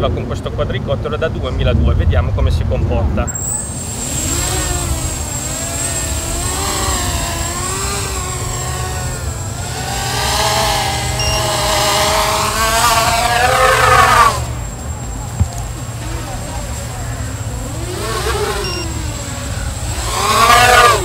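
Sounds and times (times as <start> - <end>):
quadcopter motors buzzing whine: 3.3 - 21.0.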